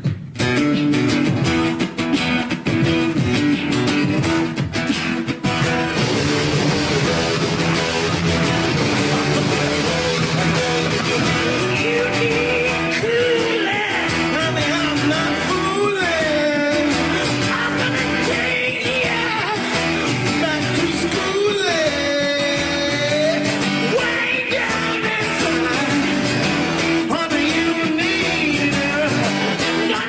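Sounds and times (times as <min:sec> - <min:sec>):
man imitating guitar with mouth: 0:00.0 - 0:30.0
strummed guitar: 0:00.0 - 0:30.0.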